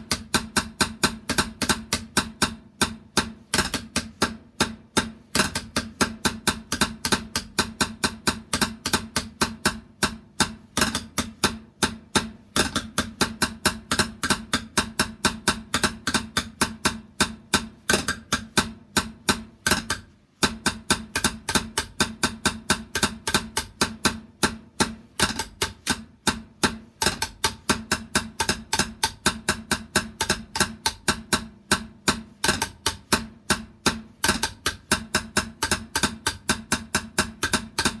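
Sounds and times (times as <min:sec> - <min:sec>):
drum beating rapidly: 0:00.0 - 0:38.0.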